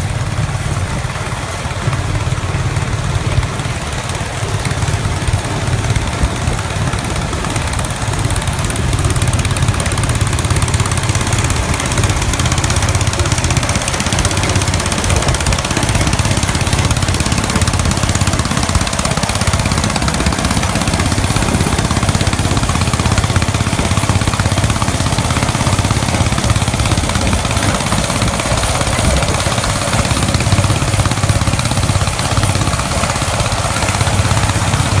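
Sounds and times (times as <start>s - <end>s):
baler engine running: 0.0s - 35.0s
tractor engine running: 0.0s - 35.0s.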